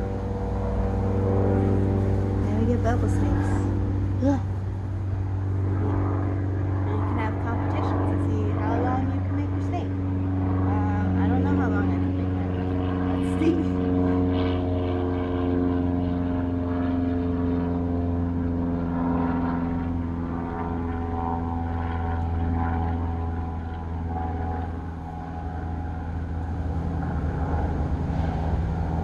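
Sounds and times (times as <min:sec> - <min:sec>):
airplane engine droning overhead: 0:00.0 - 0:29.0.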